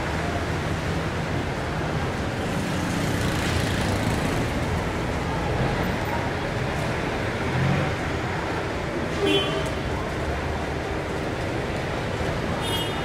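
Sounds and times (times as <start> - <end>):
vehicle engines drone: 0.0 - 12.6.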